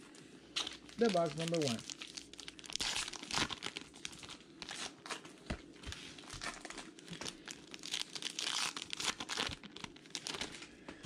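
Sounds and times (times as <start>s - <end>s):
wrapping crinkling and tearing: 0.0s - 5.3s, 6.1s - 10.8s.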